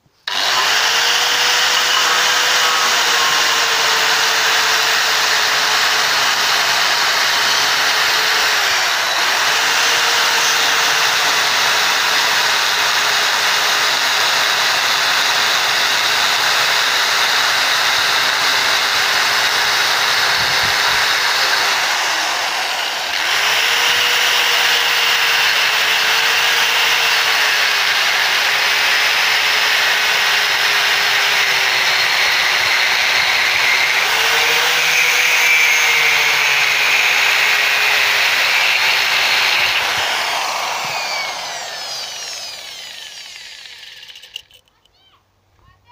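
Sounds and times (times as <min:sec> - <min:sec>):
angle grinder grinding coconut shell: 0:00.2 - 0:44.9.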